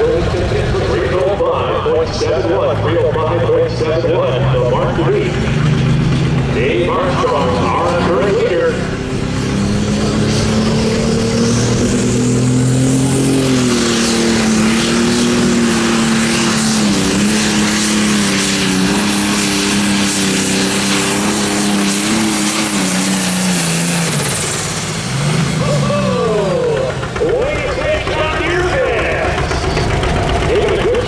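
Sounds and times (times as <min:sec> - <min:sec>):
diesel engine at full throttle: 0:00.0 - 0:31.0.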